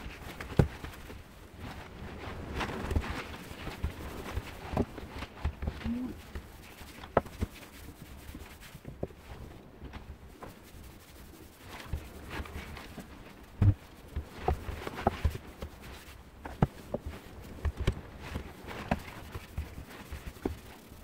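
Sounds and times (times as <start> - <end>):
cloth rubbing wooden handle: 2.0 - 9.4, 10.4 - 21.0.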